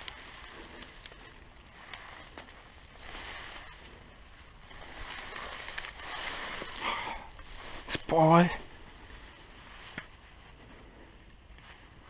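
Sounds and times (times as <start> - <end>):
dry grass rustling: 0.0 - 12.0.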